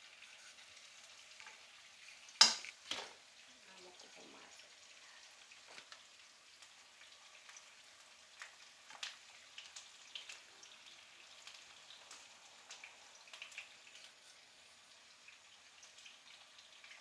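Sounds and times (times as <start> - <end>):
eggplant frying in oil: 0.0 - 17.0
oil popping and crackling: 0.0 - 17.0.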